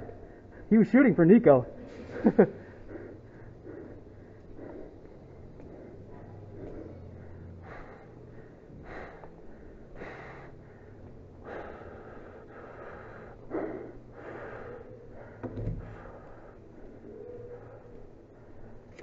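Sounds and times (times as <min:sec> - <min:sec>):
person breathing heavily: 0:00.0 - 0:00.7, 0:01.7 - 0:19.0.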